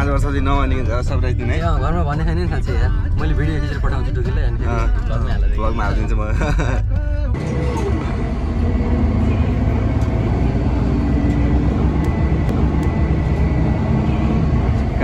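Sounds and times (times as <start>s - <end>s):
city bus engine and road rumble: 0.0s - 15.0s.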